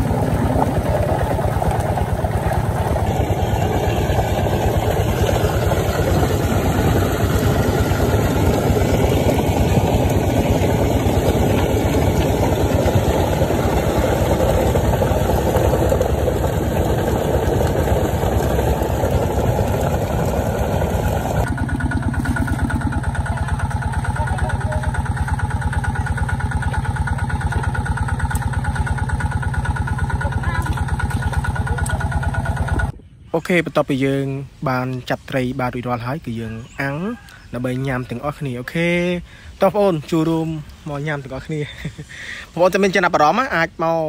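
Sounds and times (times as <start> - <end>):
small engine driving water pump: 0.0 - 33.0, 34.7 - 44.0.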